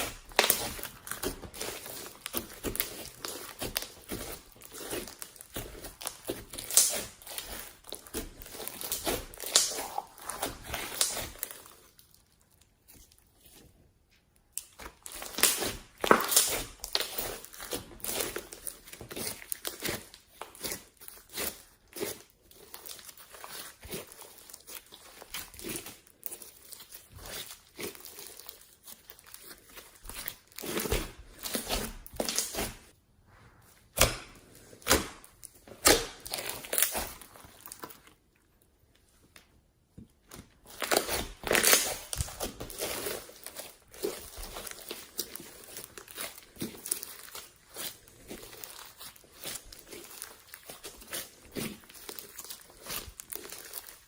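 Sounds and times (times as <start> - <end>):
slime squeezed crackling: 0.0 - 13.4, 14.4 - 33.0, 33.8 - 38.3, 40.4 - 54.0.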